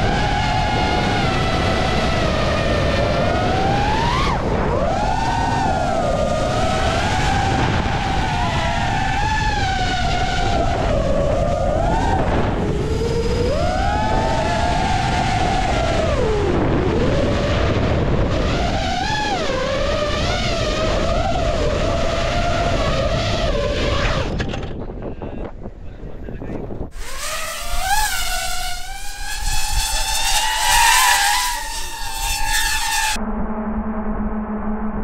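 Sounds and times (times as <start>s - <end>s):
drone motors whining: 0.0s - 24.7s, 27.0s - 35.0s
wind noise on microphone: 0.0s - 35.0s.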